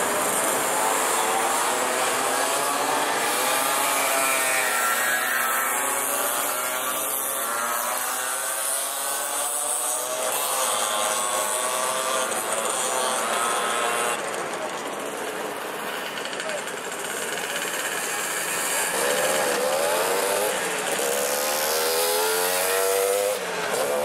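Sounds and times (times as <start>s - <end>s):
motorcycles and mopeds riding past: 0.0s - 24.0s.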